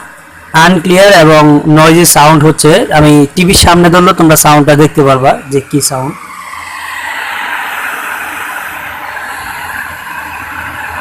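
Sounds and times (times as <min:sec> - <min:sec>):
television speaker hissing: 0:00.0 - 0:11.0.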